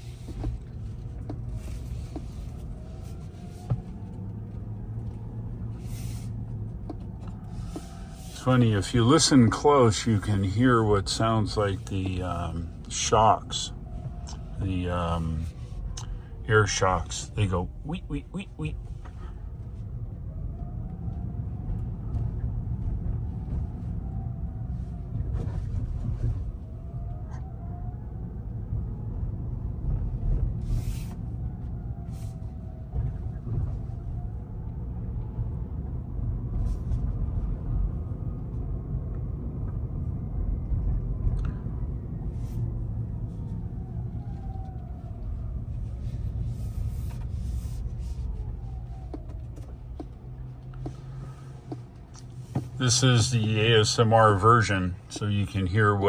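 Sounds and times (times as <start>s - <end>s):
low road rumble: 0.0s - 56.0s.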